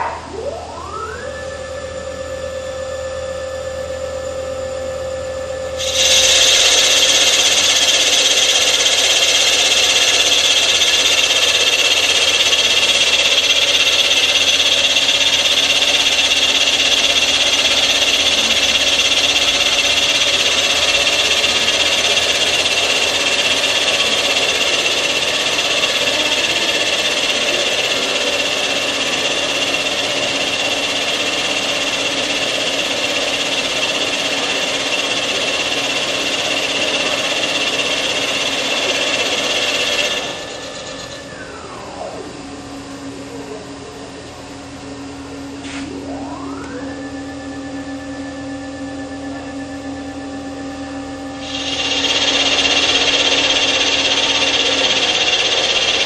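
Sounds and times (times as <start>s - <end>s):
milling machine cutting metal: 5.8s - 44.6s, 45.5s - 56.0s.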